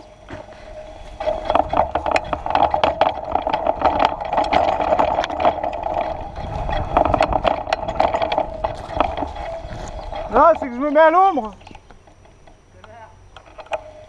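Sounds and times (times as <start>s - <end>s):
bike rattling over bumps: 0.0s - 14.0s
bike tyres rolling on dirt: 0.0s - 14.0s
low wind rumble: 0.0s - 14.0s.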